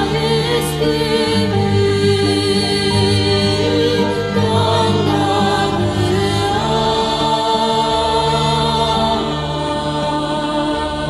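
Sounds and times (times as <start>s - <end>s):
instrumental backing: 0.0s - 11.0s
woman singing with vibrato: 0.0s - 11.0s.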